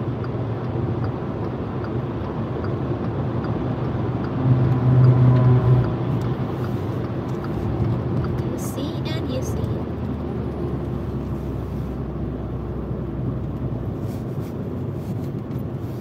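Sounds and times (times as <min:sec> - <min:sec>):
car road noise rumble: 0:00.0 - 0:16.0.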